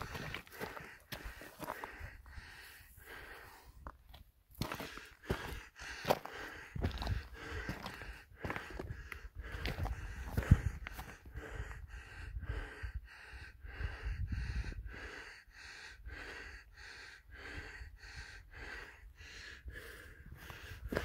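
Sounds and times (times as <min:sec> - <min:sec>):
rapid heavy breathing: 0:00.0 - 0:21.0.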